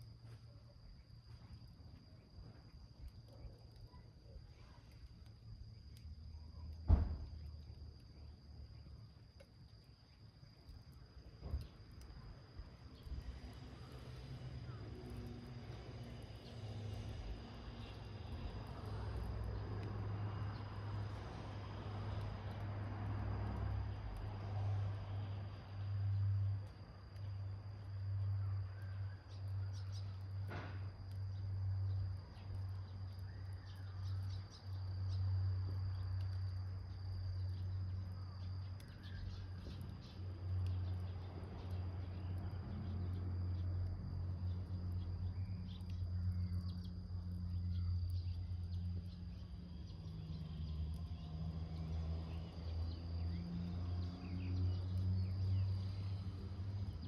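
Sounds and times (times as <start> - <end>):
high insect trill: 0.0 - 57.0.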